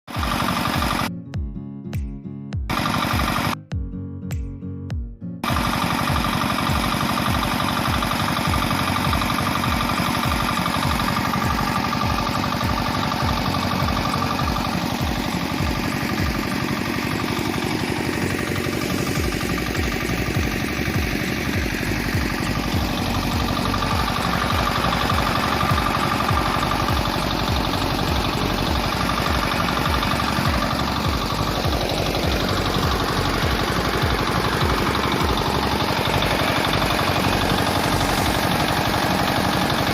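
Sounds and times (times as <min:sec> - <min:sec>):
small diesel engine running: 0:00.0 - 0:01.1, 0:02.7 - 0:03.6, 0:05.4 - 0:39.9.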